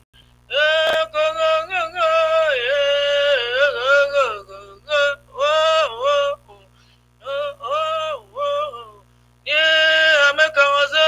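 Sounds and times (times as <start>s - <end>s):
faint low hum: 0.2s - 11.0s.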